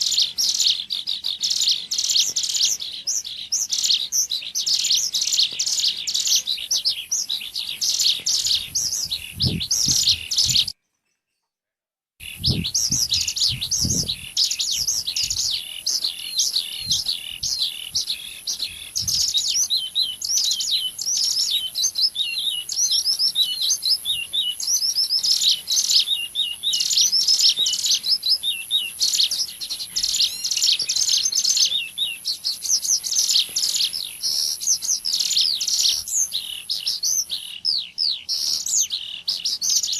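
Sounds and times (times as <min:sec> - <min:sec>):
high-pitched bird chirping and trilling: 0:00.0 - 0:10.8, 0:12.2 - 0:39.9.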